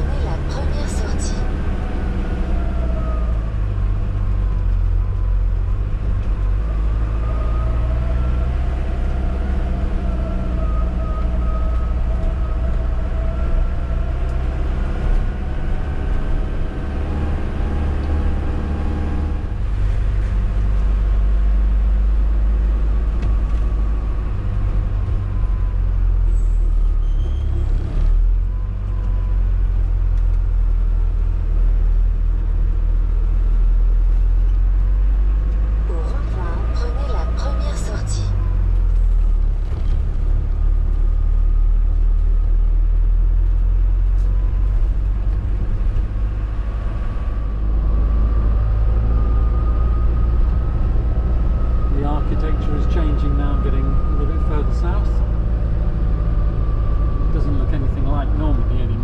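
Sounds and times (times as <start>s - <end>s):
motorhome engine and road hum: 0.0s - 59.0s.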